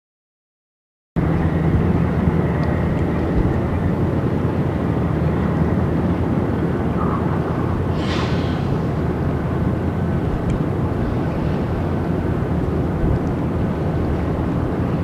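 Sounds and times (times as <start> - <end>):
ship diesel engine drone: 1.2 - 15.0.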